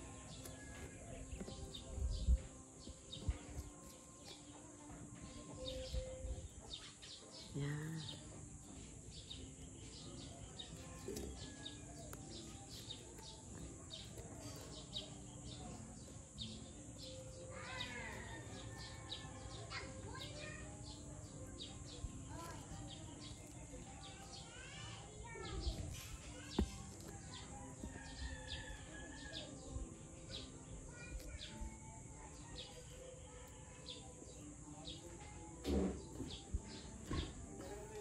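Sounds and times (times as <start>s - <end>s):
birds chirping and calling: 0.0s - 38.0s.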